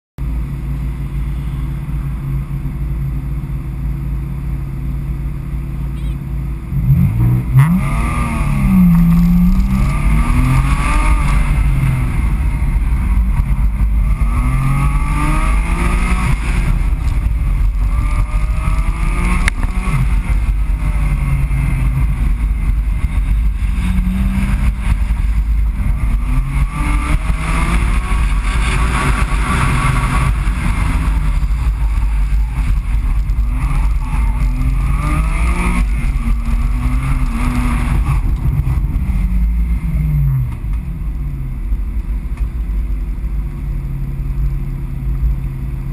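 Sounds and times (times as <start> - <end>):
car engine idling and revving: 0.2 - 45.9
tyres on wet pavement: 6.2 - 44.5.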